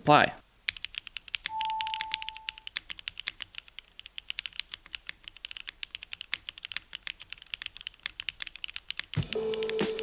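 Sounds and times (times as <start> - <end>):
keyboard typing: 0.7 - 10.0.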